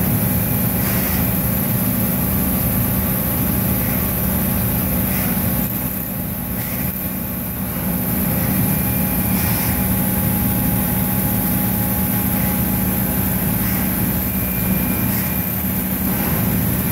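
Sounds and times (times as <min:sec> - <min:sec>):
high coolant hiss: 0:00.0 - 0:16.9
milling machine hum: 0:00.0 - 0:16.9.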